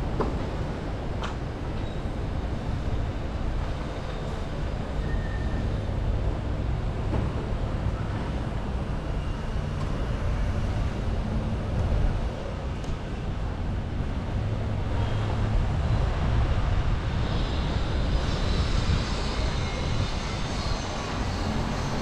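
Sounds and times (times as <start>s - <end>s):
road noise: 0.0s - 22.0s
wind rumble on microphone: 0.0s - 22.0s.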